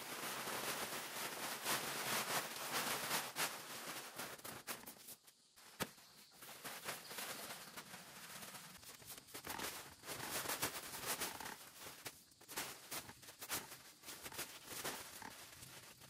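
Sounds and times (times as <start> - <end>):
footsteps on plastic sheeting: 0.0 - 16.0.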